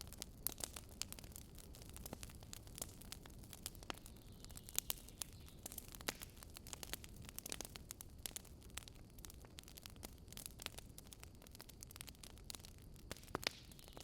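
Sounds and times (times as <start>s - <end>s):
wood campfire crackling: 0.0s - 14.0s.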